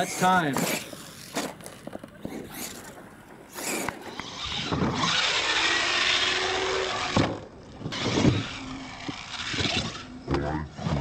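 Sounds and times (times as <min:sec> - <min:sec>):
faint motor whine: 0:00.0 - 0:11.0
toy truck tyres and motor: 0:00.0 - 0:11.0.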